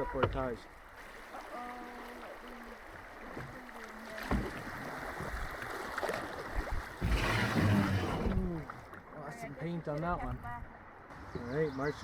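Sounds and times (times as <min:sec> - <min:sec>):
water rushing along a canoe hull: 0:00.0 - 0:12.0.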